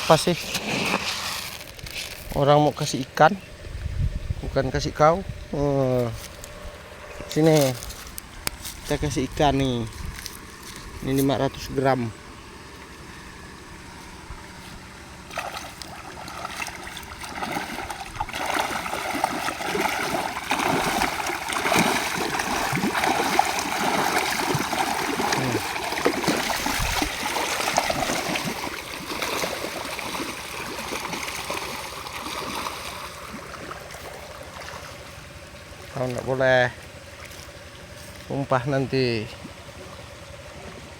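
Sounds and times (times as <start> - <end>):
water splashing and trickling: 5.6 - 40.9.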